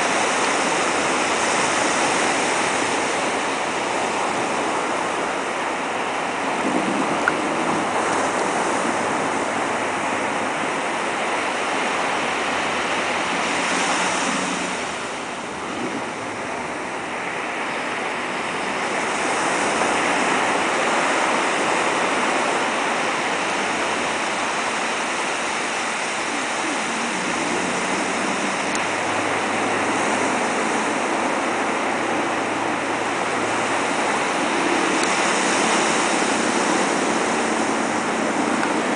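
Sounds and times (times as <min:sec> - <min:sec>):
faint outboard motor hum: 0:00.0 - 0:38.9
ocean surf breaking: 0:00.0 - 0:38.9.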